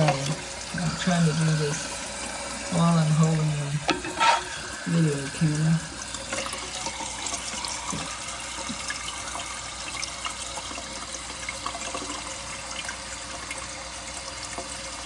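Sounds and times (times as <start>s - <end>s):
water running in toilet tank: 0.0s - 15.0s.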